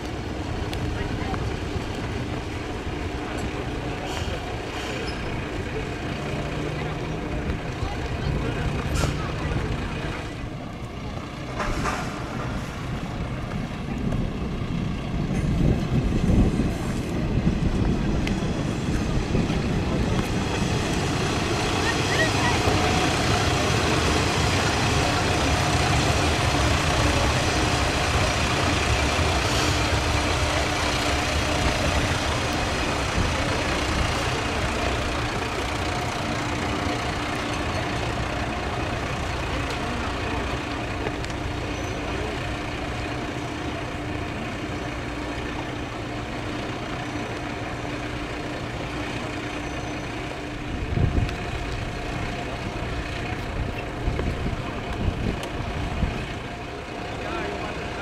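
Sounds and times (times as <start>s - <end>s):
diesel railcar passing: 0.0s - 58.0s
railcar engine idling: 0.0s - 58.0s.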